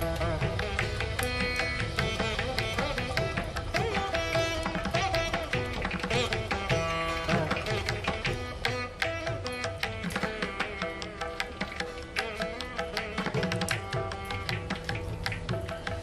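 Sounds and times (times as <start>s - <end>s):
plucked strings: 0.0s - 16.0s.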